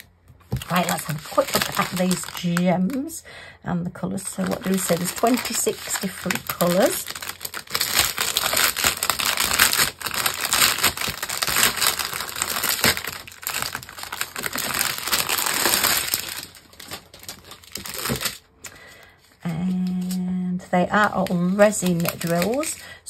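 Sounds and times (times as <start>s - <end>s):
plastic wrapping crinkling: 0.0s - 3.2s, 4.1s - 20.2s, 20.9s - 23.0s.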